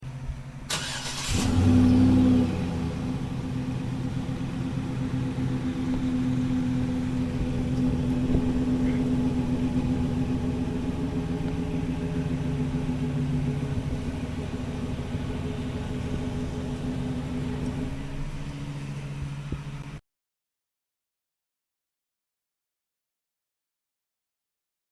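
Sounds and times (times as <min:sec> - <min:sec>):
truck engine starting and idling: 0:00.0 - 0:20.0.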